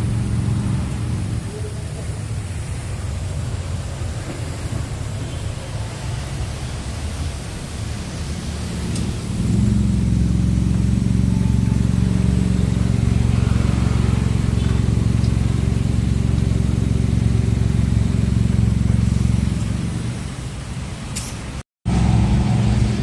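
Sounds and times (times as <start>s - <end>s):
car engine running: 0.0s - 5.2s, 7.2s - 21.0s.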